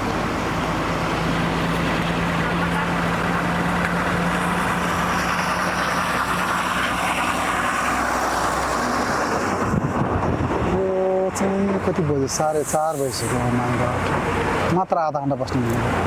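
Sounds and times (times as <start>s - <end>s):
vehicle passing close by: 0.0s - 14.7s.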